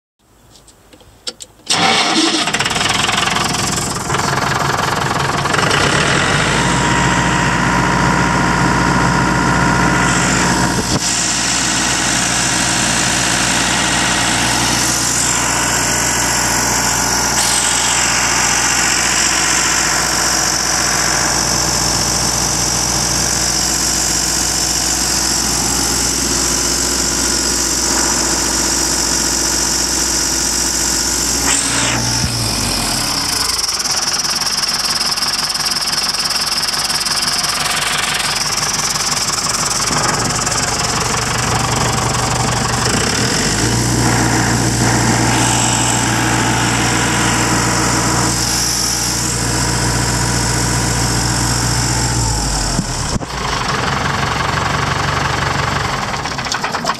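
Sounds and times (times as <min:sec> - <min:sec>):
diesel engine starting and running: 0:01.4 - 0:56.9.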